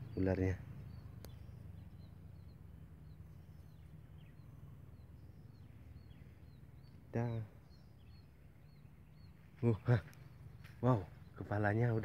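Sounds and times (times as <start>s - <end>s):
bird chirping faintly: 0.0s - 12.0s
low steady rumble: 0.0s - 12.0s.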